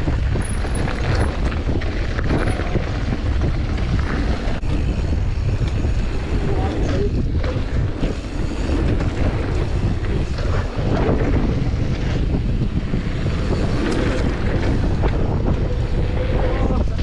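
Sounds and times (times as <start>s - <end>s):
bike knocks and rattles: 0.0s - 16.3s
bike tyres rumbling on gravel: 0.0s - 17.0s
wind buffeting microphone: 0.0s - 17.0s.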